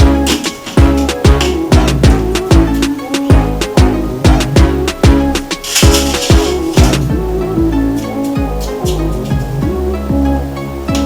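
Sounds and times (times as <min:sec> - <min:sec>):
music with sliding bass line: 0:00.0 - 0:11.0.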